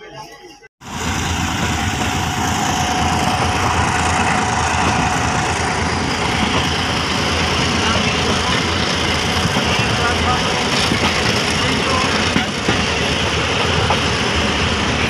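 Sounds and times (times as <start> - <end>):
train running along track: 0.0 - 15.0.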